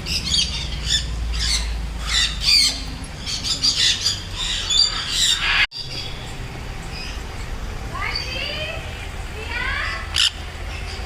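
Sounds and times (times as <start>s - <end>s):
birds squawking: 0.0s - 11.0s.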